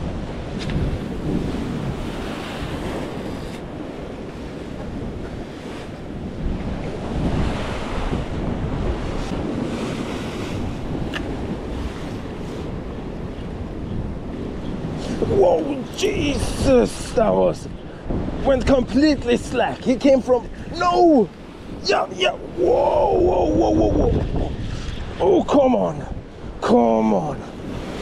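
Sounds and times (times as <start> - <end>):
waves breaking on rocks: 0.0 - 28.0
wind buffeting microphone: 0.0 - 28.0.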